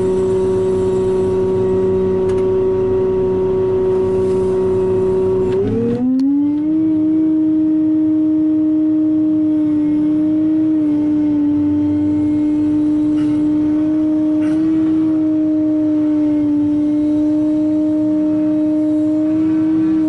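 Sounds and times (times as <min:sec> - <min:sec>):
excavator whining drone: 0:00.0 - 0:20.0.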